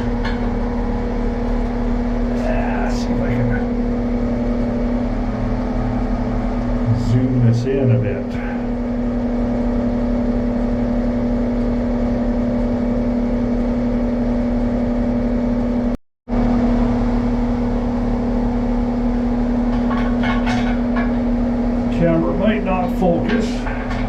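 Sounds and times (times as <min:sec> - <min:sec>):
engine humming: 0:00.0 - 0:16.0, 0:16.6 - 0:24.0.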